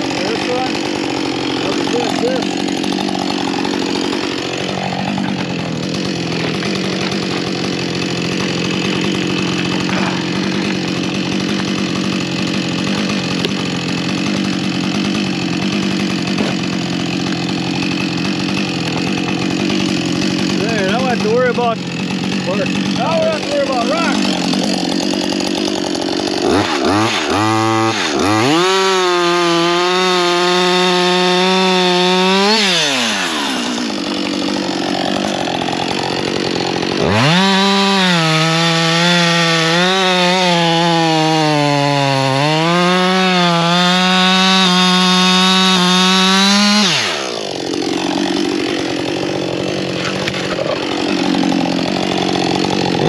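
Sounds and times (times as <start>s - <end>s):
chainsaw revving: 0.0s - 53.0s.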